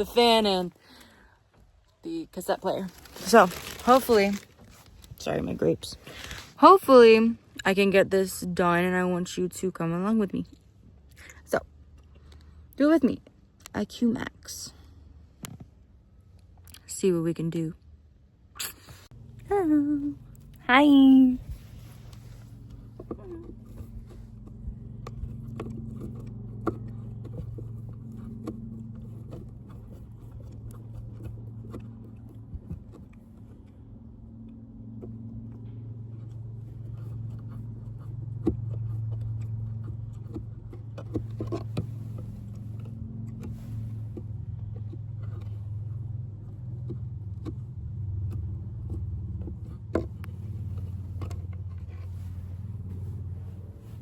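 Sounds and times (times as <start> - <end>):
vehicle engine rumble: 0.0 - 54.0.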